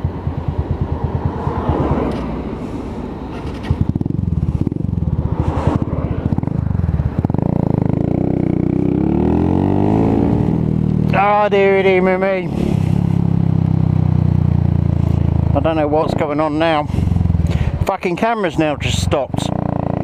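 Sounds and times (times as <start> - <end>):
motorcycle engine chugging: 0.0 - 2.1, 3.2 - 20.0.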